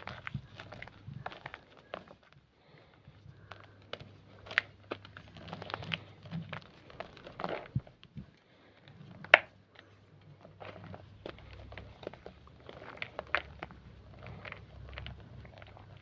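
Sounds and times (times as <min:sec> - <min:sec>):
chalk crunching and crumbling: 0:00.0 - 0:16.0.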